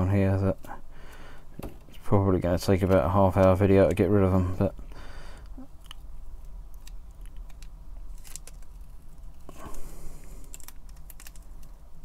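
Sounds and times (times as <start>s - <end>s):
steady low hum: 0.0s - 12.0s
masking tape crackling: 1.6s - 12.0s.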